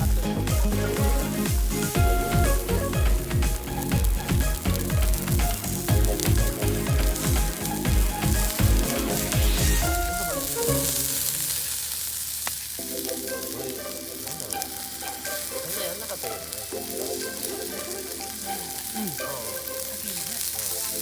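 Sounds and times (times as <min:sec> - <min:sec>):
background music: 0:00.0 - 0:12.0, 0:12.8 - 0:21.0
food sizzling in a pan: 0:00.0 - 0:21.0.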